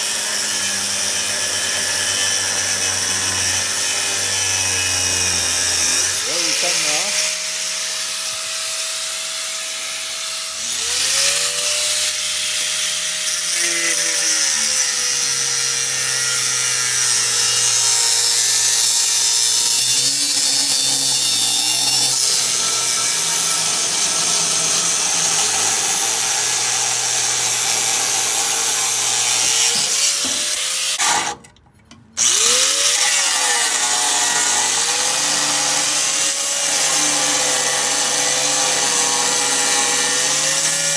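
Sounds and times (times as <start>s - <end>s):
angle grinder cutting metal: 0.0s - 31.4s, 32.2s - 40.9s.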